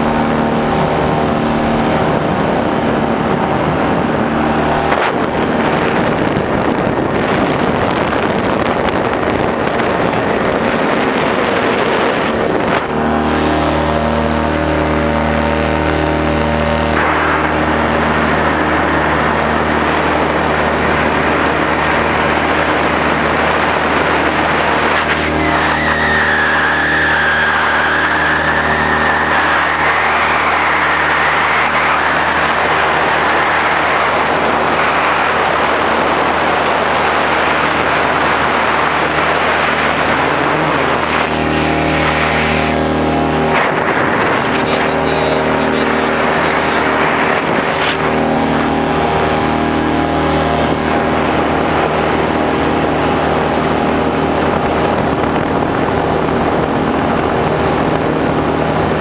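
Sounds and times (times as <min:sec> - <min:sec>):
constant hum: 0:00.0 - 0:59.0
motor running with rushing noise: 0:00.0 - 0:59.0.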